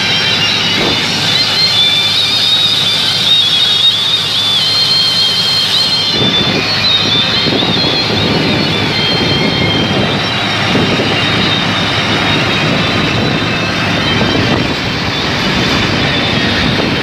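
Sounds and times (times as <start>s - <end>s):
tractor diesel engine running hard: 0.0s - 17.0s.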